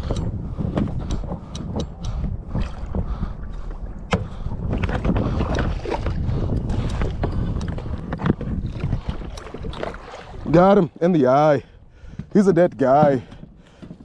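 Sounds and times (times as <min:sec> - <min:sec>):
water sloshing around kayak: 0:00.0 - 0:14.0
wind rumbling on microphone: 0:00.0 - 0:14.0.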